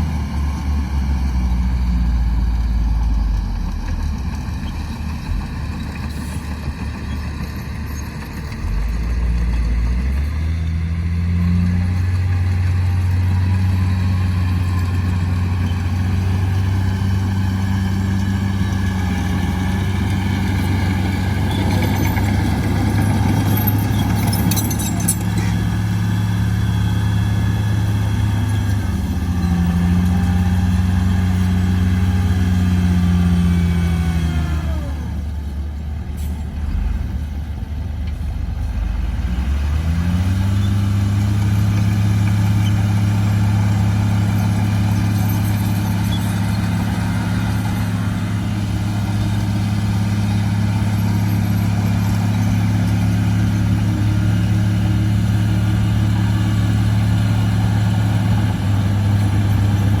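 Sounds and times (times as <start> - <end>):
diesel engine of heavy machine: 0.0 - 60.0.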